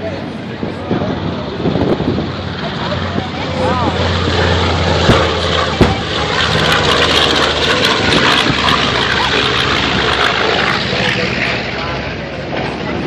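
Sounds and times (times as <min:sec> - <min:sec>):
propeller plane droning past: 0:00.2 - 0:13.0.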